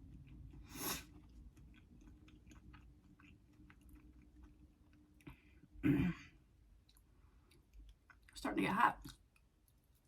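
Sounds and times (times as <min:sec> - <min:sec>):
faint chewing: 0:00.0 - 0:05.8, 0:06.6 - 0:10.0
low steady hum: 0:00.0 - 0:10.0.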